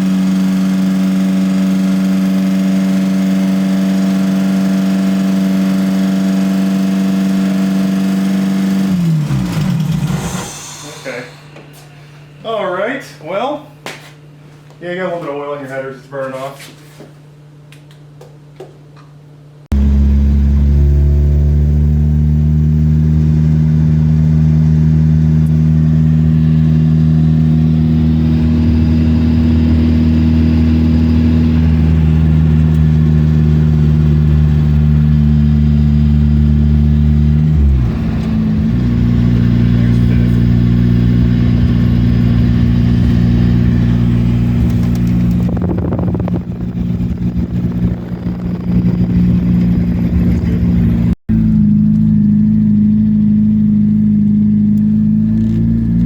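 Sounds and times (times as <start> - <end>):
car engine running: 0.0 - 12.4, 19.7 - 56.0.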